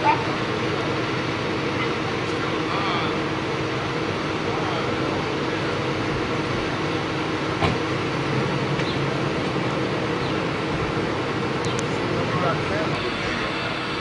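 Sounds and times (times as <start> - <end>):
engine idling: 0.0 - 14.0
street noise: 0.0 - 14.0.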